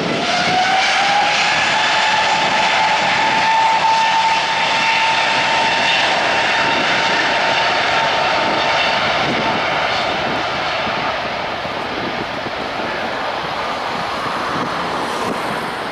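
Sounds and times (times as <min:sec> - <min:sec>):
jet engine whine: 0:00.0 - 0:15.9
jet engines roaring: 0:00.0 - 0:15.9.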